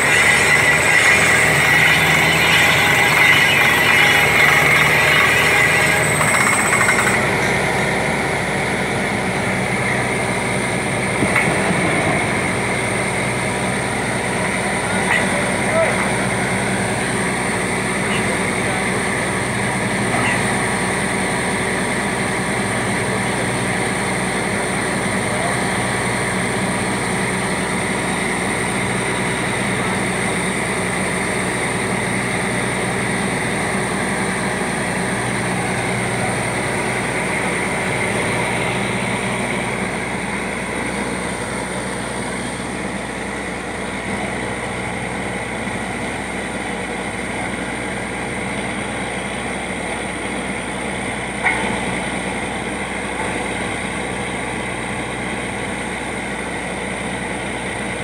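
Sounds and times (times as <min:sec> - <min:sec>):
drilling rig engine drone: 0:00.0 - 0:58.0
high steady whine: 0:00.0 - 0:58.0.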